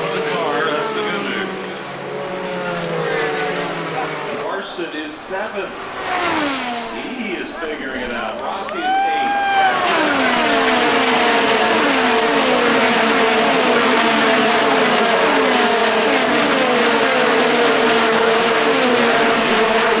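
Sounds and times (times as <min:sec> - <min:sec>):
race cars passing by: 0:00.0 - 0:20.0.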